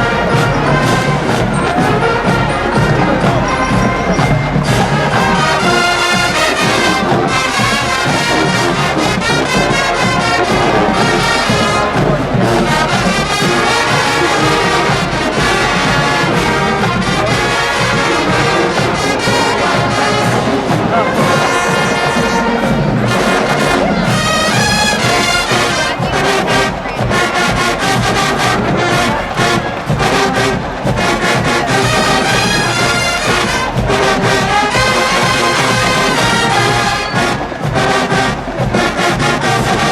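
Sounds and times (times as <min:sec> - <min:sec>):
drumline percussion: 0:00.0 - 0:39.9
trombones and trumpets: 0:00.0 - 0:39.9.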